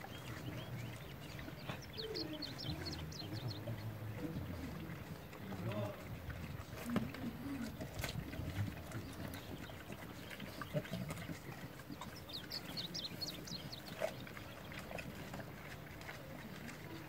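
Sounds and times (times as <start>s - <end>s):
quiet animal sounds: 0.0s - 17.0s.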